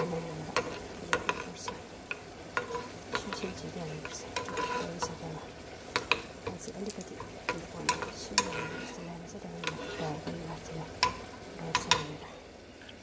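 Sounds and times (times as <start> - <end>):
metal spoon scraping pan: 0.0 - 5.2, 5.9 - 12.2
nuts sizzling in oil: 0.0 - 13.0.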